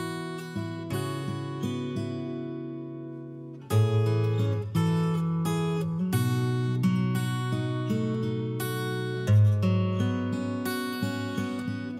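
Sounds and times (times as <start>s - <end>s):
acoustic guitar music: 0.0s - 11.9s.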